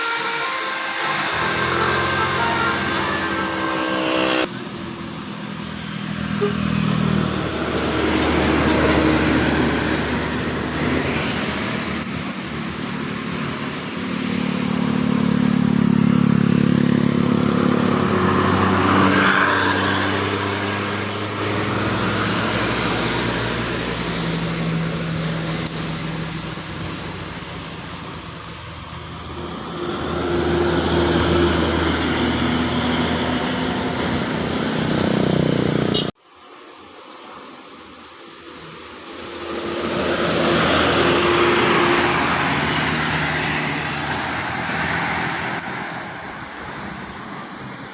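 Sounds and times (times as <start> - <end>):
vehicle engines pulling uphill: 0.0 - 36.2, 37.6 - 47.9.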